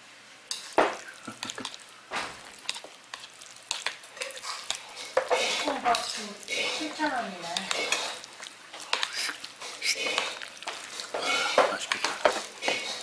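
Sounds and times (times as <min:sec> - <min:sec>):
wet sticky noodle stirring: 0:00.5 - 0:13.0.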